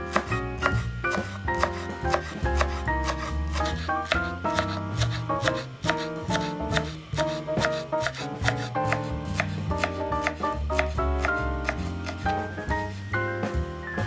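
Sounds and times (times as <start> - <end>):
knife chopping on wooden board: 0.0 - 12.4
background music: 0.0 - 14.0.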